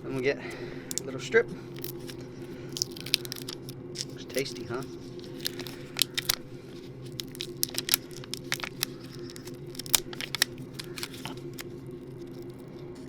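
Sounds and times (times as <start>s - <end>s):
steady low hum: 0.0s - 13.0s
rubber strip peeling and crackling: 0.9s - 1.1s, 1.7s - 12.8s.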